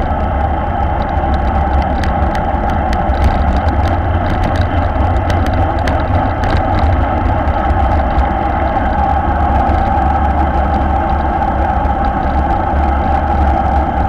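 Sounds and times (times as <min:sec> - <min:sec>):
faint clicks and rattles: 0:00.0 - 0:14.0
tyre and road noise: 0:00.0 - 0:14.0
wind buffeting microphone: 0:00.0 - 0:14.0.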